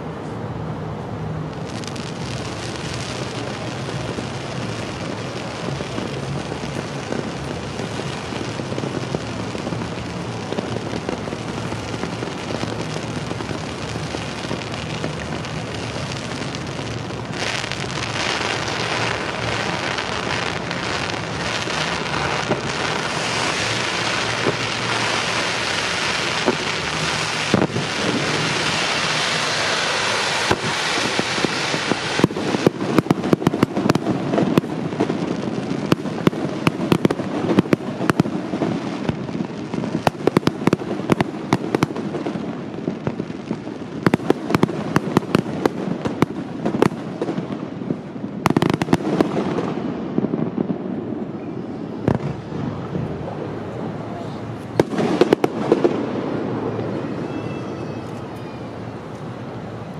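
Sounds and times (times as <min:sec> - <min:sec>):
fountain fireworks hissing: 0:00.0 - 0:59.9.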